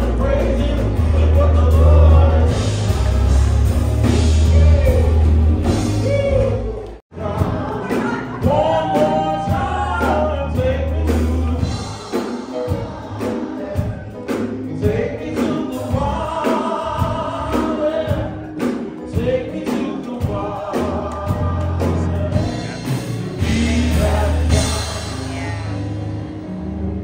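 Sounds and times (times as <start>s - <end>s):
band with bass and drums: 0.0s - 27.0s
voices singing gospel: 0.0s - 27.0s.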